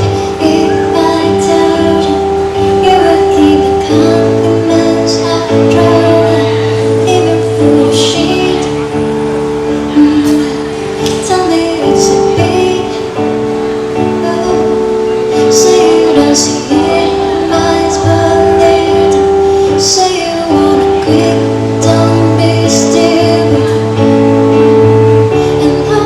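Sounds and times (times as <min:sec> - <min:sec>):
woman singing over held chords: 0:00.0 - 0:26.0.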